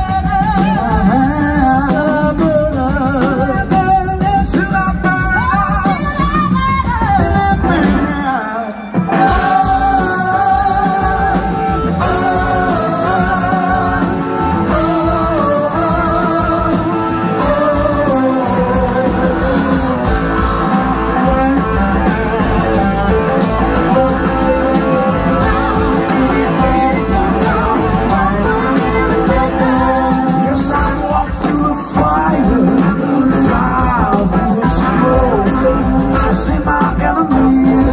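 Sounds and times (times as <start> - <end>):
live rock band playing: 0.0 - 37.9
person singing: 0.0 - 37.9.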